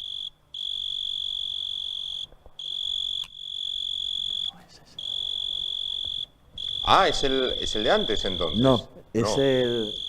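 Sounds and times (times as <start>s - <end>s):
cricket trilling: 0.0s - 10.0s.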